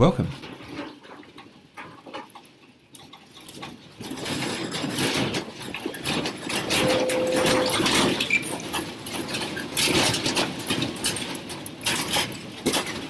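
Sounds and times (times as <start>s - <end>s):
furniture rattling and clattering: 0.4s - 13.0s.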